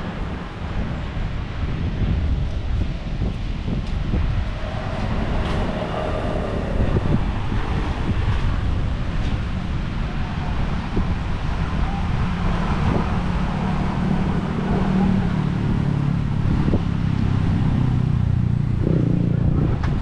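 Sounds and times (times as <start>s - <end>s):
engine humming: 0.0s - 20.0s
passing traffic: 0.0s - 20.0s
wind buffeting microphone: 0.0s - 20.0s.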